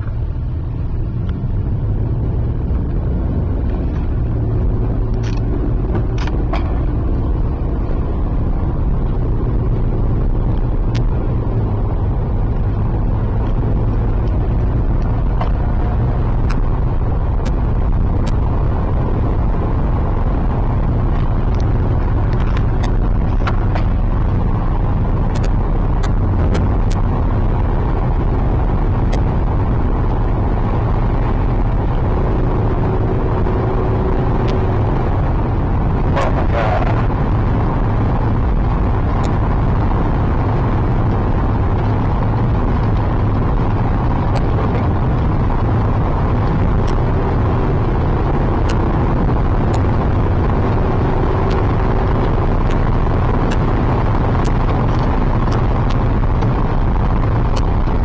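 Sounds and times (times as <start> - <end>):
car rumble from inside cabin: 0.0 - 58.0.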